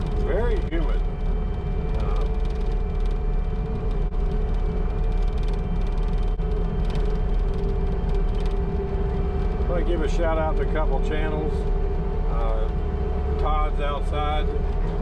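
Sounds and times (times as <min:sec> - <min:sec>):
diesel loader engine rumbling: 0:00.0 - 0:15.0.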